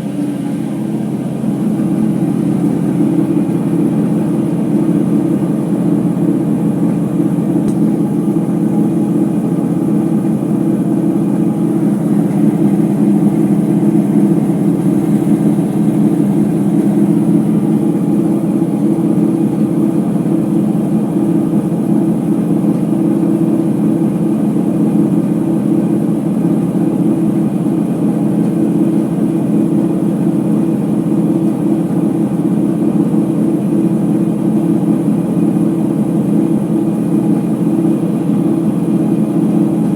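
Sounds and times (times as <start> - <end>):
washing machine spinning drone: 0.0 - 39.9.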